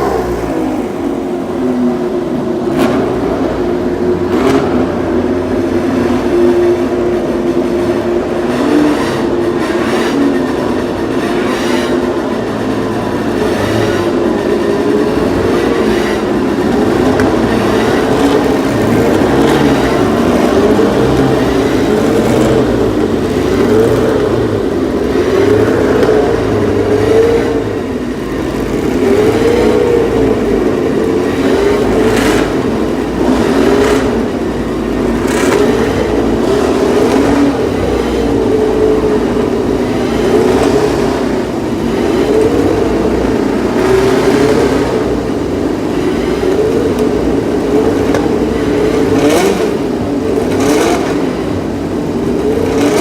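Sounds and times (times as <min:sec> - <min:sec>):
racing car engines: 0:00.0 - 0:53.0.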